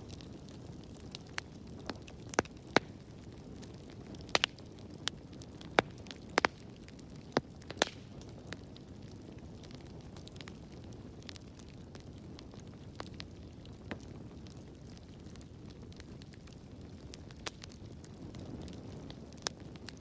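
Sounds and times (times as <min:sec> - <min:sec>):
low rush of flames: 0:00.0 - 0:20.0
wood fire popping and snapping: 0:00.0 - 0:20.0.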